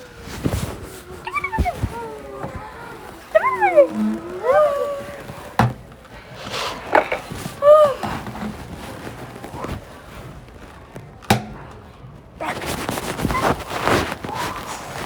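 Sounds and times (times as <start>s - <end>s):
busy mechanical noise: 0.0s - 15.0s.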